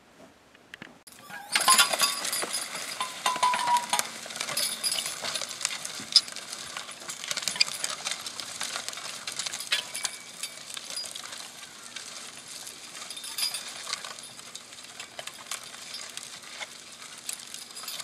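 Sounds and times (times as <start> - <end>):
dirt grinding: 1.1 - 18.0
disc harrow clattering: 1.1 - 18.0.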